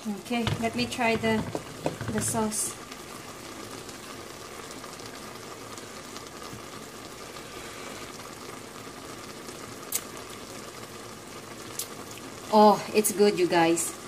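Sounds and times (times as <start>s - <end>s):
sauce simmering in a metal pan: 0.0s - 14.0s.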